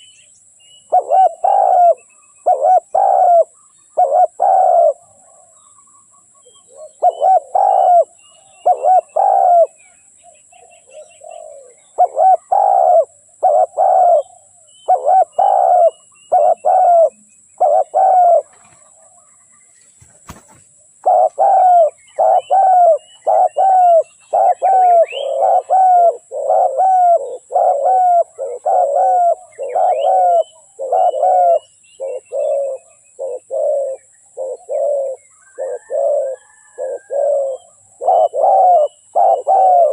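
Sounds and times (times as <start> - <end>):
small birds chirping: 0.0 - 39.9
dove cooing: 0.8 - 5.6, 6.4 - 9.8, 10.5 - 19.3, 20.0 - 39.9.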